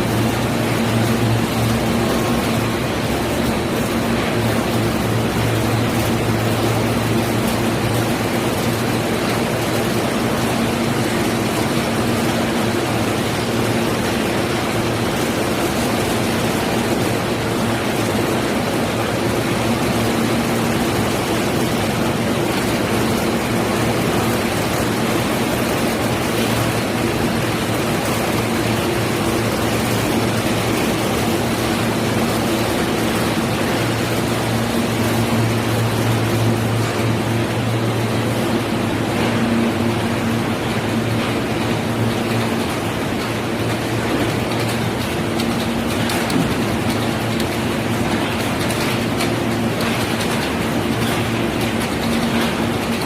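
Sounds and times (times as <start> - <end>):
wide rushing noise: 0.0 - 53.0.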